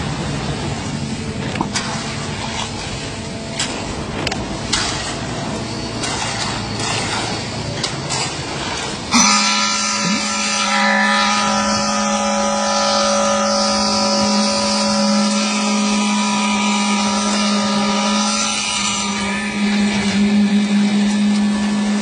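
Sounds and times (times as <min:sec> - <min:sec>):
concrete pump machine drone: 0:00.0 - 0:22.0.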